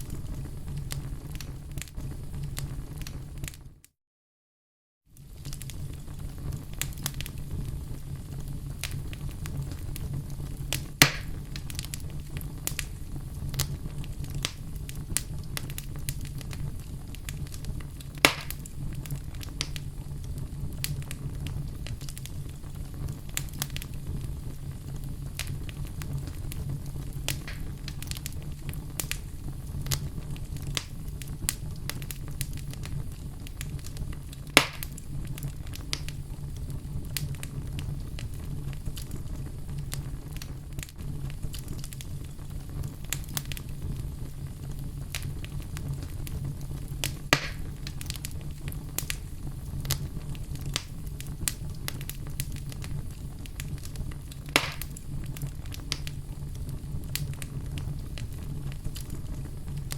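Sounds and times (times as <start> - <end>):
loud fire pops: 0.0 - 3.6, 5.2 - 59.9
fire crackling in fireplace: 0.0 - 3.9, 5.1 - 59.9
low rumble of fire: 0.0 - 3.9, 5.1 - 59.9.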